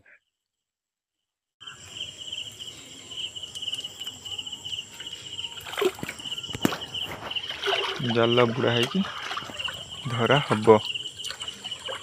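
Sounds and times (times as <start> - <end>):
insects trilling: 1.6 - 12.0.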